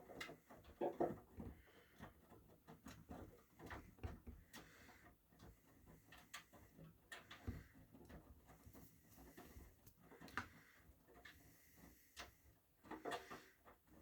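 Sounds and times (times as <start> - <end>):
faint clicks and soft knocks: 0.0 - 14.0.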